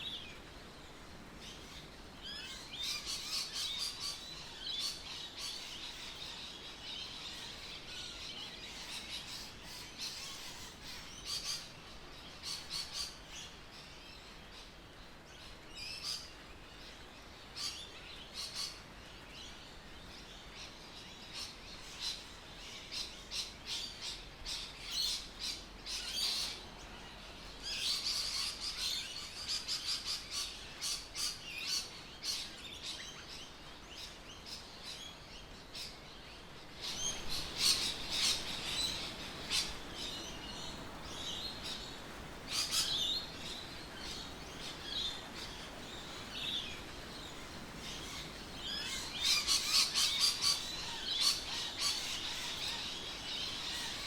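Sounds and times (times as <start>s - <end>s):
birds chirping: 0.0s - 54.0s
faint outdoor hiss: 0.0s - 54.0s.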